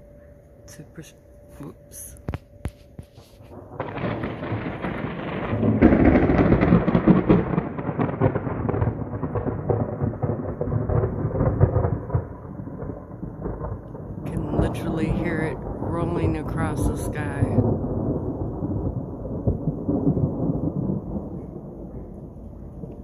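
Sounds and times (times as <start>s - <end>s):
thunder rumbling: 0.7s - 23.0s.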